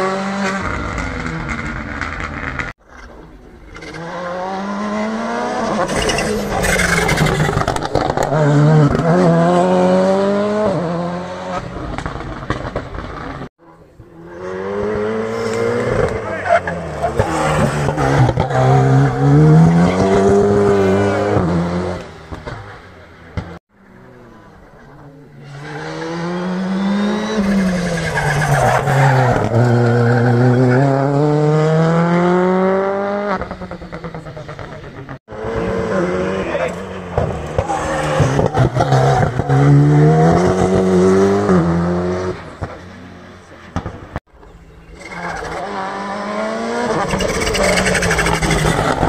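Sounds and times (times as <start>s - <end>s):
rally car engine accelerating: 0.0s - 44.2s, 44.8s - 49.0s.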